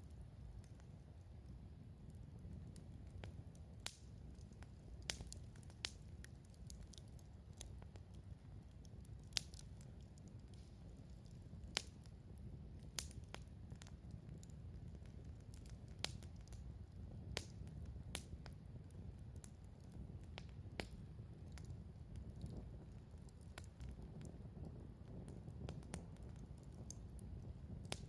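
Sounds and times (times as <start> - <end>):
burning wood crackling and popping: 0.0 - 28.0
low rumble of campfire: 0.0 - 28.0.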